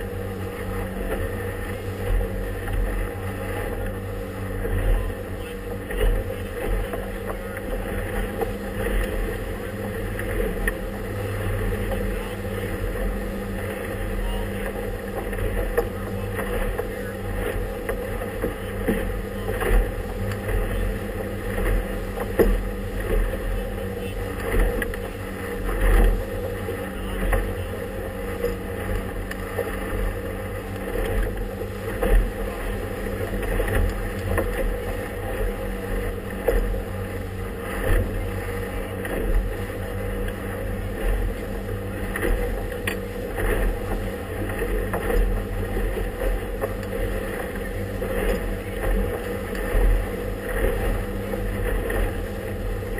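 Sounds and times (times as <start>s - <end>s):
motorboat engine running: 0.0s - 52.9s.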